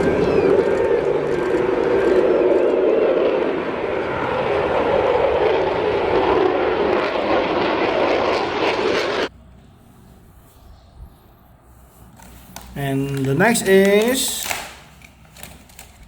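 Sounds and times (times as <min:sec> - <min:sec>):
airplane engine drone: 0:00.0 - 0:16.0.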